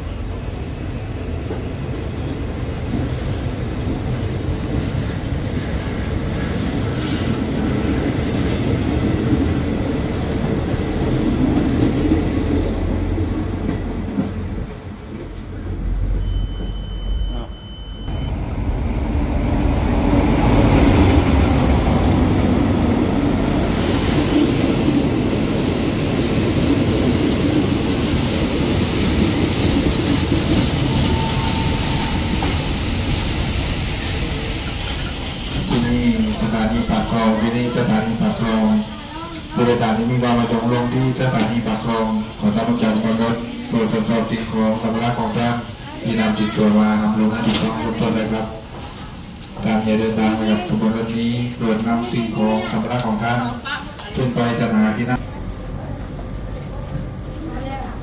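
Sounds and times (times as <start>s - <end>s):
train coaches rolling past: 0.0s - 58.0s
train wheel rumble: 0.1s - 17.5s, 18.1s - 58.0s.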